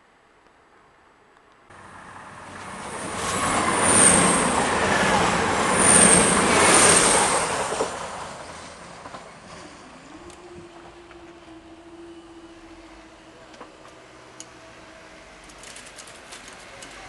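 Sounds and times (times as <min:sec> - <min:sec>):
diesel train passing: 0:01.7 - 0:17.0.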